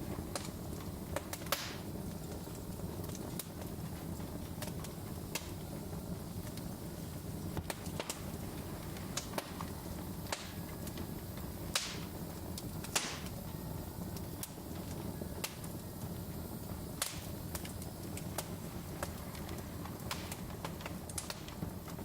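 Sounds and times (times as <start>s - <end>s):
loud pops with hiss: 0.0s - 13.5s, 14.1s - 22.0s
wood fire crackling: 0.0s - 22.0s.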